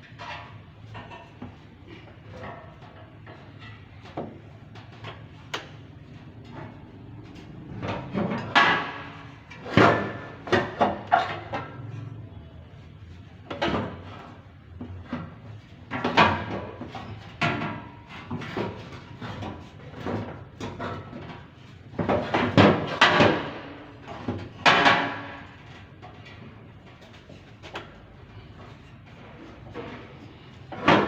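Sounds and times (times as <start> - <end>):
objects knocking and clattering: 0.0 - 12.2, 13.4 - 31.0.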